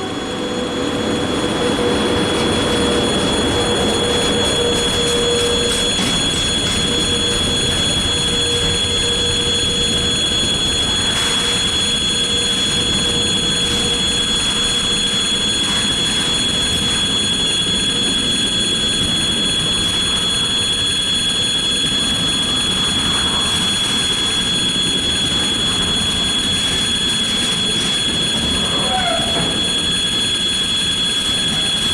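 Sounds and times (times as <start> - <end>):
freight train rumbling on rails: 0.0 - 31.9.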